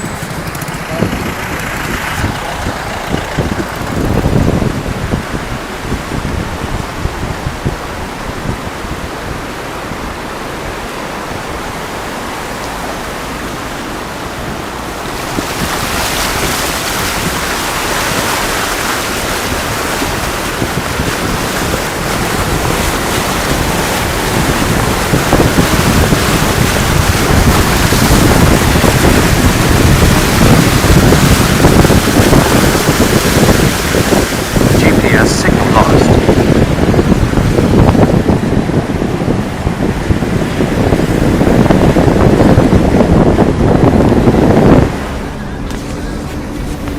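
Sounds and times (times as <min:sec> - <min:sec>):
rushing water: 0:00.0 - 0:46.9
wind noise on microphone: 0:00.0 - 0:46.9.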